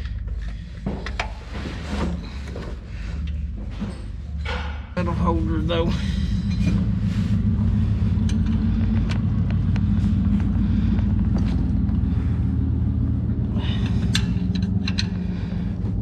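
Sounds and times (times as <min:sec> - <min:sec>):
engine idling drone: 0:00.0 - 0:16.0.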